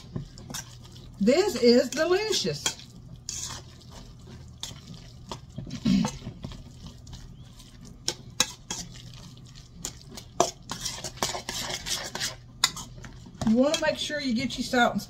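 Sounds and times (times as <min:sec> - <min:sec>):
hands squelching wet mixture: 0:00.0 - 0:13.9.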